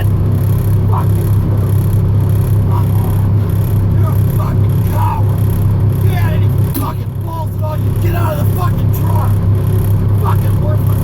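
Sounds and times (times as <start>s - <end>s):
diesel truck engine drone: 0.0s - 11.0s.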